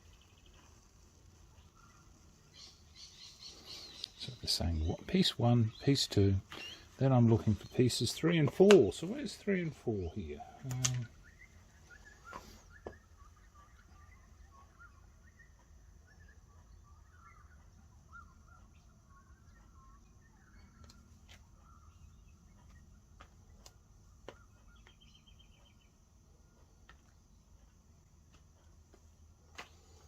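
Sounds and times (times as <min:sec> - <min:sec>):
faint bird chirps: 0:00.0 - 0:30.0.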